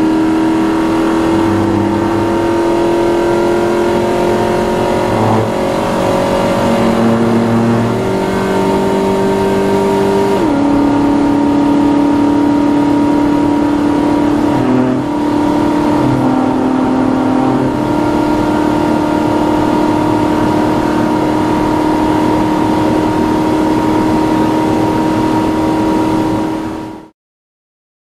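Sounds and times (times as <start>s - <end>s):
car engine running: 0.0s - 27.1s
road noise: 0.0s - 27.1s.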